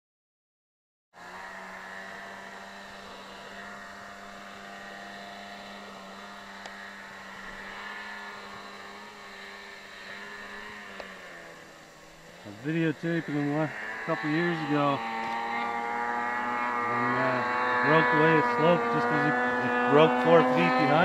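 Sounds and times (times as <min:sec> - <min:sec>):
snowmobile engine droning: 0:01.2 - 0:21.0.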